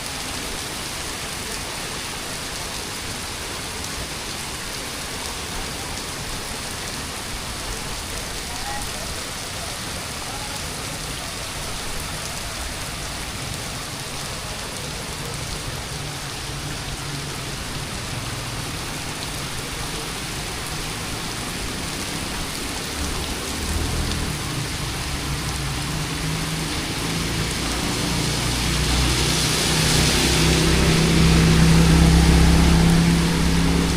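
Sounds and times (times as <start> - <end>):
rain hissing on hard surfaces: 0.0 - 33.9.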